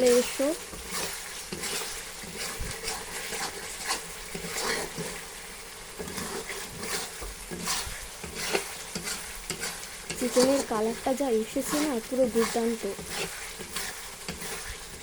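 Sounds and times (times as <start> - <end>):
chicken sizzling in frying: 0.0 - 15.0
scraping strokes: 0.1 - 5.2, 6.0 - 10.9, 11.6 - 15.0.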